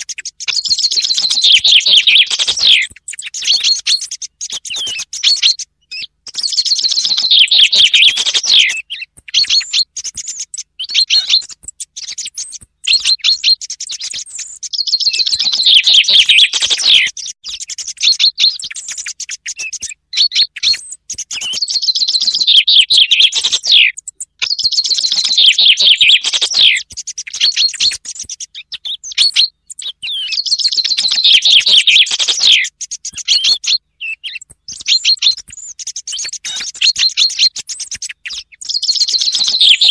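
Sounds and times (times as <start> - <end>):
chaffinch song trill: 0.0 - 39.9.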